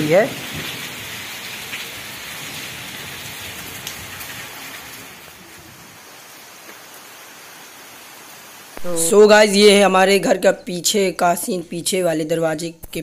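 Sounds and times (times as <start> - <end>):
heavy rain: 0.0 - 10.4.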